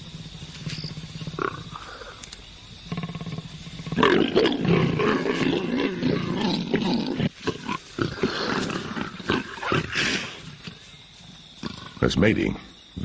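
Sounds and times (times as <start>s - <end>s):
leopards growling and snarling: 0.0s - 13.0s.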